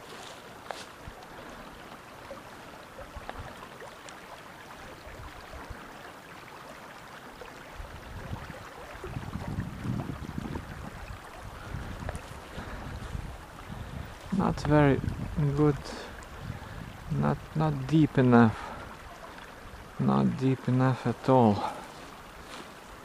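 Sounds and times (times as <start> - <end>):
stream rushing over riffles: 0.0 - 23.0.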